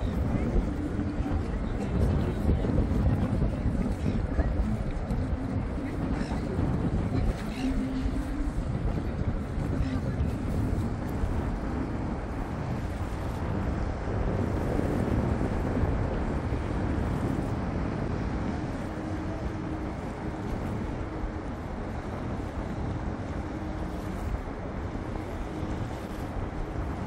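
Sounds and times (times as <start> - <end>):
boat wash: 0.0 - 27.0
boats passing on water: 0.0 - 27.0
faint engine hum: 0.0 - 27.0.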